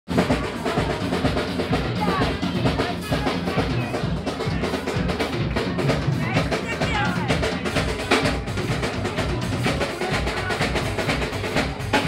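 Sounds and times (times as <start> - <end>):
drum kit pounding fast beat: 0.1 - 12.0
live rock band playing: 0.1 - 12.0.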